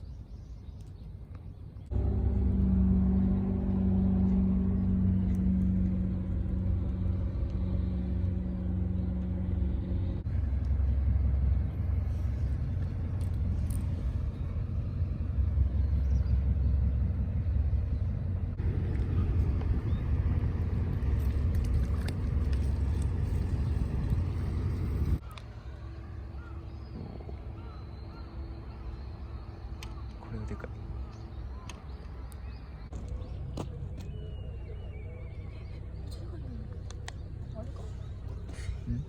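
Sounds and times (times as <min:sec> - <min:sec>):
motor vehicle rumble: 0:00.0 - 0:39.0
humming drone: 0:01.8 - 0:39.0.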